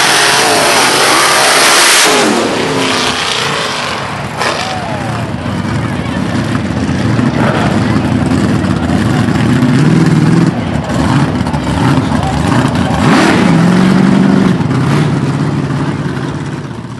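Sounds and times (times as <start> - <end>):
truck engines revving hard: 0.0 - 16.9.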